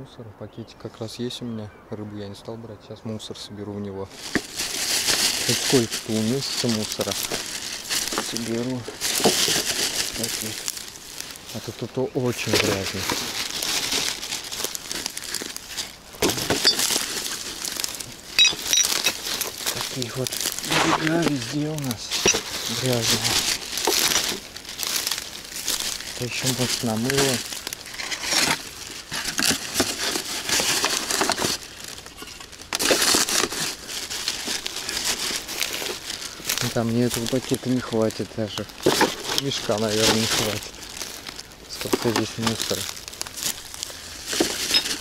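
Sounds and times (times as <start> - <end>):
footsteps crunching through dry reeds: 4.1 - 45.0
plastic bag rustling: 4.1 - 45.0.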